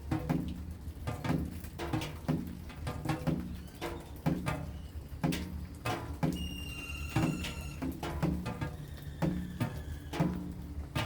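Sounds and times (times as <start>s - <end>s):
rain dripping on hollow surface: 0.0s - 11.0s.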